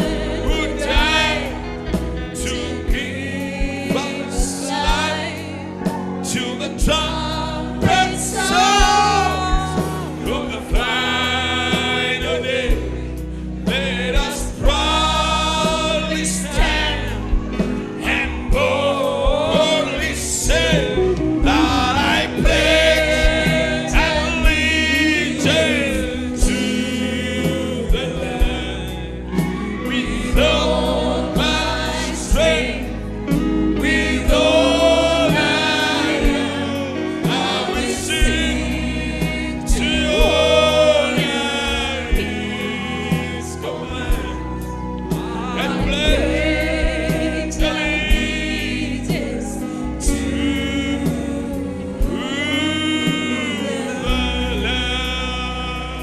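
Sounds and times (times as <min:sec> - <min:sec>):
bass line: 0:00.0 - 0:56.0
gospel choir singing: 0:00.0 - 0:56.0.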